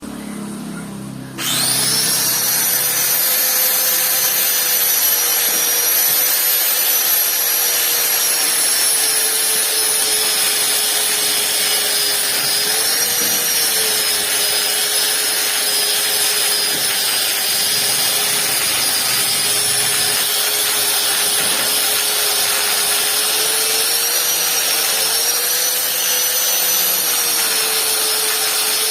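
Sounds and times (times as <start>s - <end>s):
bit grinding wood: 1.4s - 28.9s
rotary tool motor whine: 1.4s - 28.9s.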